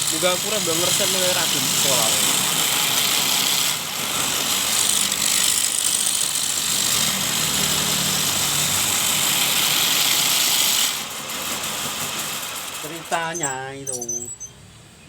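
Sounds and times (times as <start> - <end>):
motor running with loud hiss: 0.0 - 13.8.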